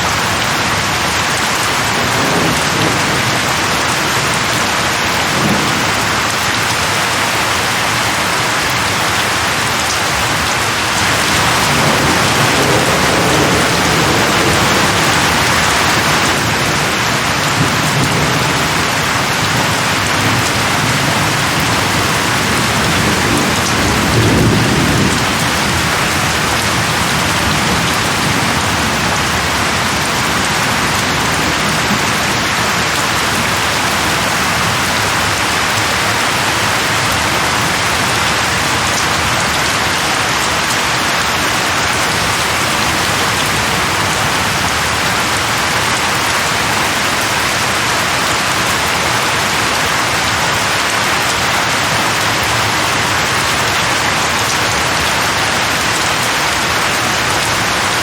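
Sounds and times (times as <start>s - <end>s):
heavy rain falling: 0.0s - 58.0s
thunder rumbling: 0.1s - 48.9s.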